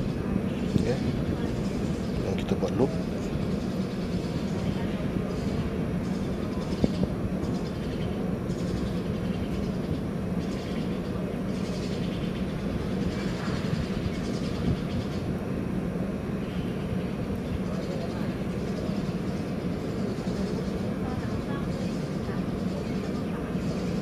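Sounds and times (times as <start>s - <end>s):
constant low hum: 0.0s - 24.0s
low rumbling noise: 0.0s - 24.0s.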